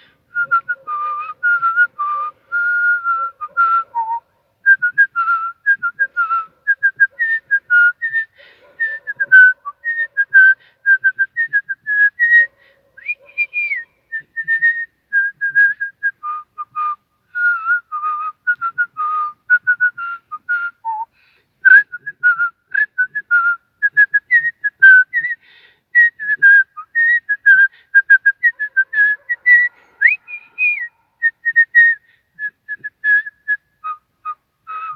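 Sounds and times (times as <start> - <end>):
man whistling a lively tune: 0.3 - 34.9.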